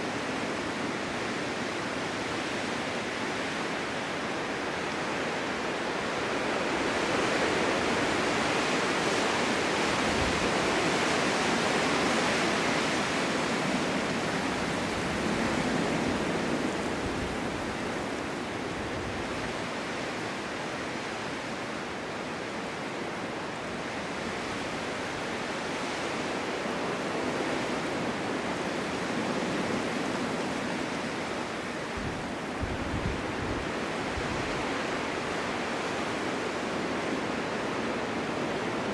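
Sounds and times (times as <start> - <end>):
wind blowing in snowstorm: 0.0 - 38.9.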